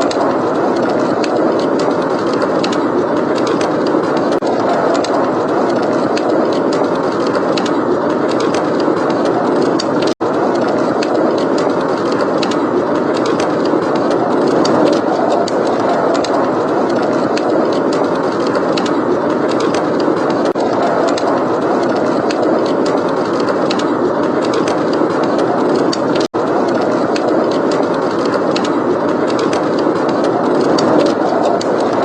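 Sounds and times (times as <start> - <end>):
blizzard wind rushing: 0.0 - 32.0
wood fire crackling: 0.0 - 32.0.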